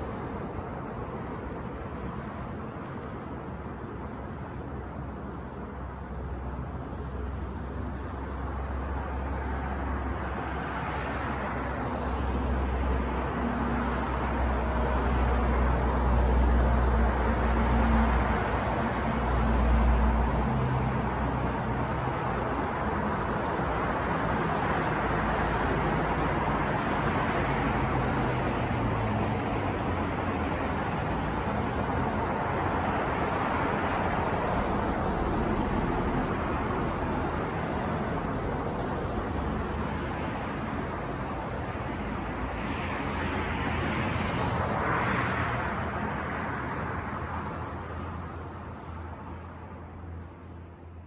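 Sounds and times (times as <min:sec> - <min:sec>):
city street traffic: 0:00.0 - 0:51.0.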